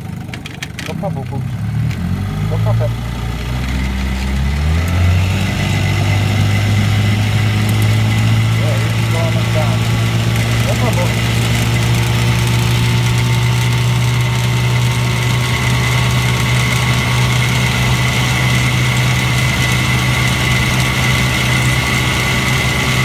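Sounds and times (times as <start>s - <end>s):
motor hood rattling: 0.0s - 23.0s
outboard motor running: 0.0s - 23.0s.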